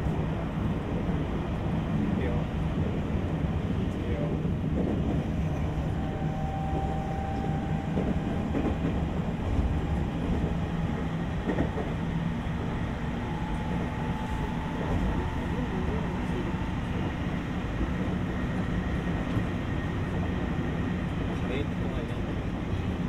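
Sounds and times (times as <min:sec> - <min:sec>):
wheels rumbling on rails: 0:00.0 - 0:23.0.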